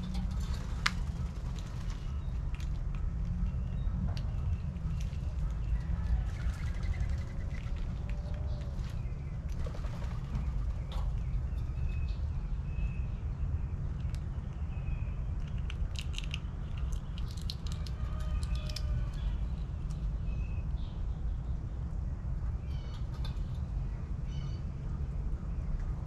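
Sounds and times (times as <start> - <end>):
garden birds chirping: 0.0 - 26.0
steady low rumble: 0.0 - 26.0.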